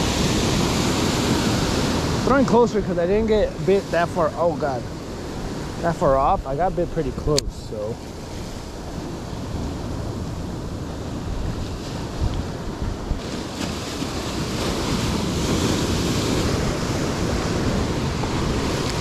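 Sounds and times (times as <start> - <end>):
surf washing over rocks: 0.0 - 19.0
wind rumbling on microphone: 0.0 - 19.0.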